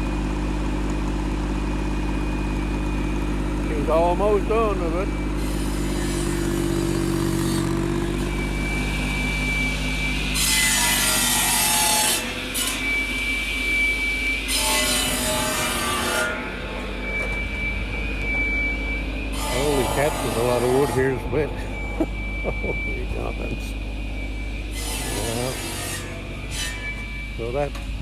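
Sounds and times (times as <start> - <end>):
diesel tractor engine running: 0.0 - 28.0
thin saw whine: 0.0 - 28.0
saw cutting through logs: 0.1 - 17.4, 19.2 - 28.0.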